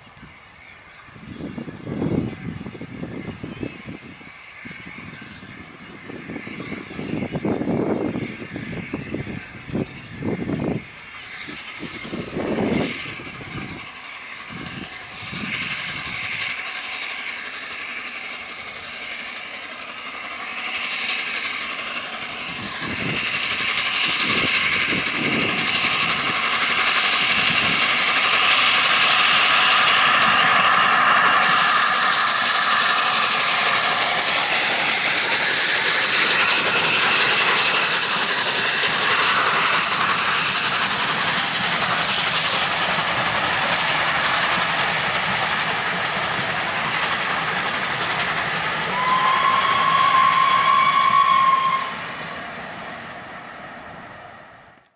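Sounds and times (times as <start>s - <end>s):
steam locomotive exhaust beats: 0.0s - 54.9s
train coaches rolling past: 0.0s - 54.9s
steam hissing: 7.2s - 54.5s.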